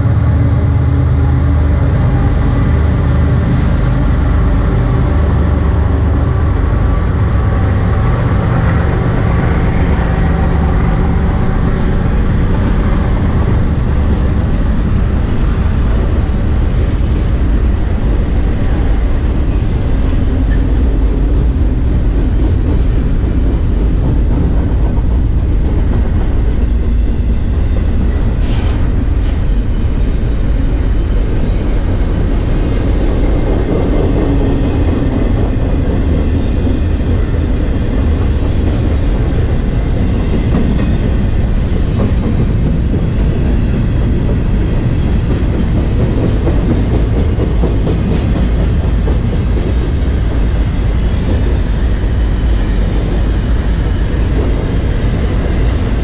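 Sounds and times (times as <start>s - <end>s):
freight train wheels rumbling on track: 0.0s - 56.0s.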